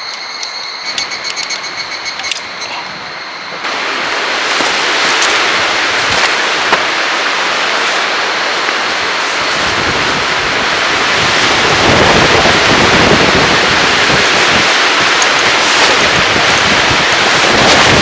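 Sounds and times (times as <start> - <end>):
gusty wind buffeting microphone: 0.9 - 18.0.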